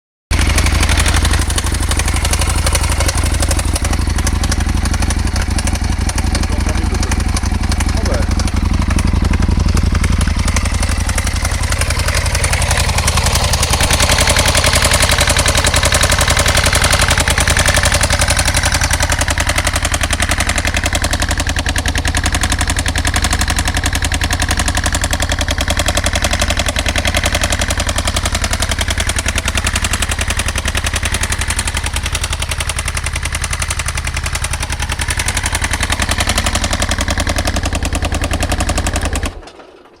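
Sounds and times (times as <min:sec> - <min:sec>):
motorcycle engine running: 0:00.3 - 0:40.0.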